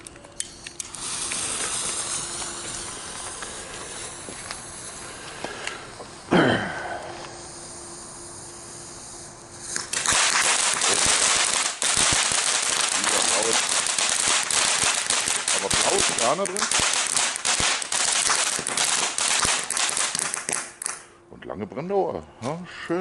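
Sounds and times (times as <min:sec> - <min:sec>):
firework fountain crackling hiss: 0:00.4 - 0:21.1.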